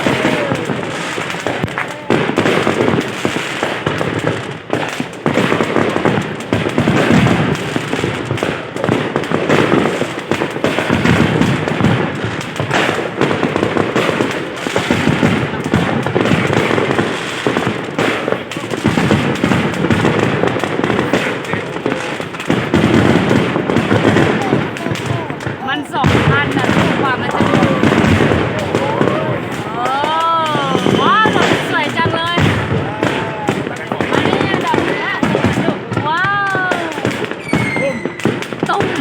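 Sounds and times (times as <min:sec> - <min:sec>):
fireworks bursting and crackling: 0:00.0 - 0:39.0.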